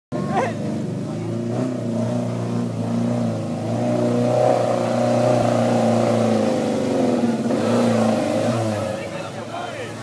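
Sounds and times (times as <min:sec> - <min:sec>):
engine revving under load: 0:00.1 - 0:09.3.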